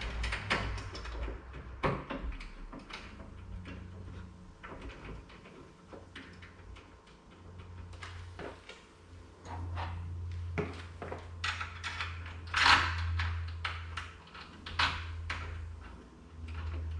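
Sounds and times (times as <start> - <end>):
metal lock parts clicking: 0.0 - 8.2, 10.6 - 16.9.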